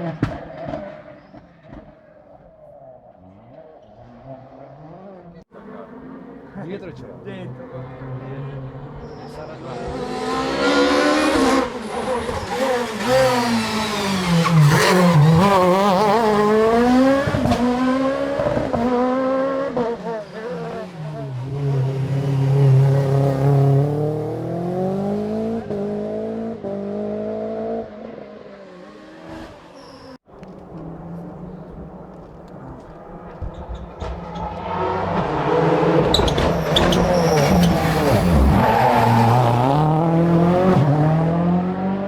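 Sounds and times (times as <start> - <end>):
rally car engine revving: 3.0 - 42.0.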